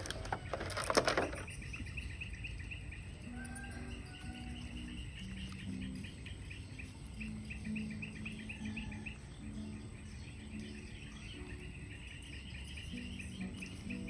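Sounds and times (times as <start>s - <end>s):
rapid high-pitched chirping: 1.4s - 14.0s.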